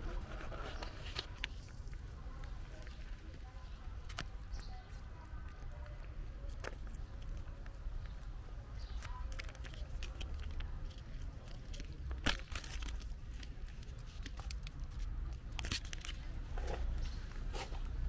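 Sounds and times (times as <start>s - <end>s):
kittens chewing and smacking: 1.1s - 18.0s.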